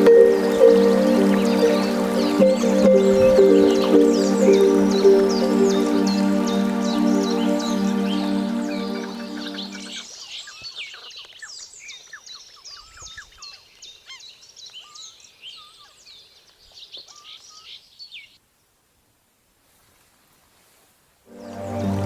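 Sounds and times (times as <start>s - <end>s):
songbirds chirping and trilling: 0.0s - 18.2s.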